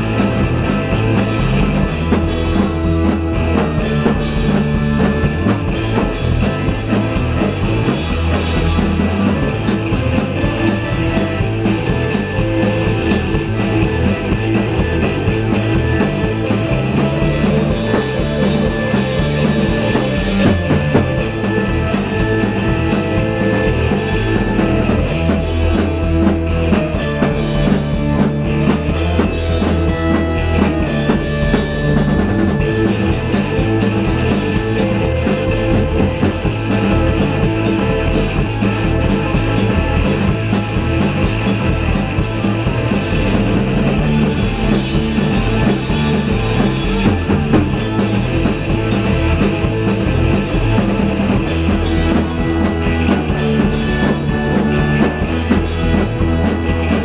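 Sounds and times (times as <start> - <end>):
bass guitar: 0.0 - 57.0
distorted electric guitars: 0.0 - 57.0
drum kit beat: 0.0 - 57.0.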